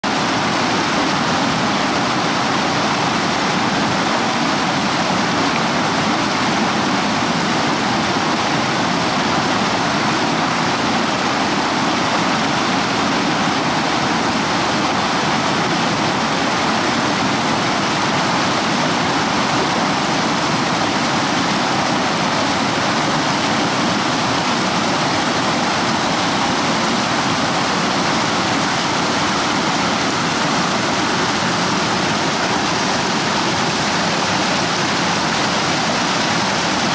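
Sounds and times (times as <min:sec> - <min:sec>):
river rapids rushing over boulders: 0:00.0 - 0:36.9.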